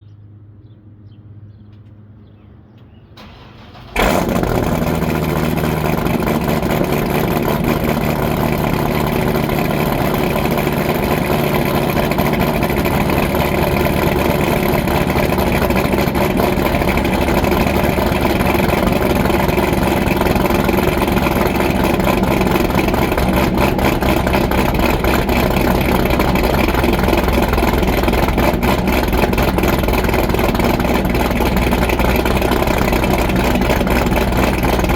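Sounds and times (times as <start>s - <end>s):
car engine cranking: 3.2s - 34.9s
loud choppy engine idle: 3.2s - 34.9s.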